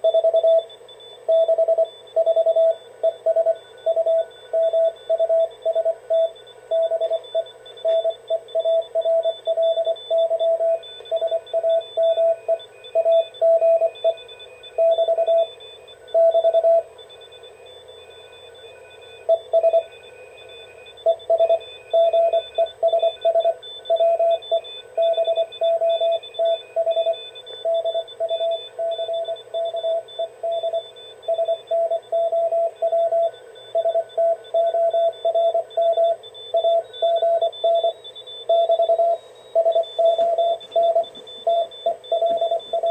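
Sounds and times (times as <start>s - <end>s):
faint high-pitched morse signals: 0.0s - 42.9s
morse code tone: 1.3s - 42.9s.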